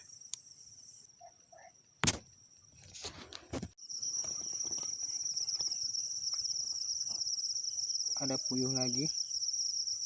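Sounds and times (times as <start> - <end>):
insect pulsing trill: 0.0 - 3.1, 3.8 - 10.0.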